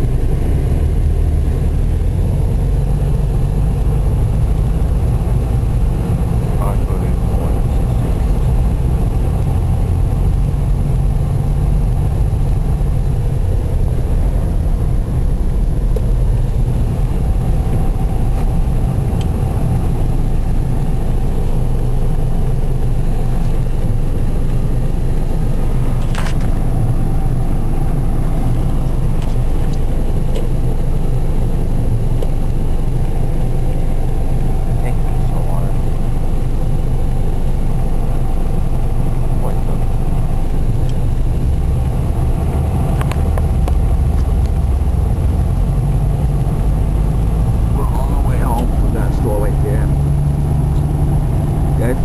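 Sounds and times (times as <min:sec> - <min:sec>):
car engine and road rumble: 0:00.0 - 0:52.0.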